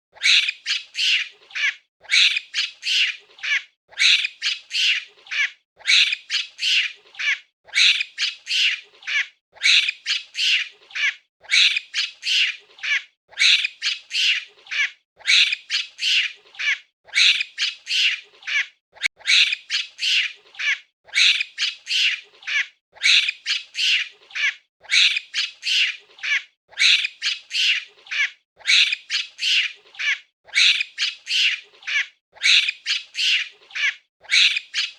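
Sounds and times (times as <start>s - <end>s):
monkey shrill squawking calls: 0.2s - 34.9s.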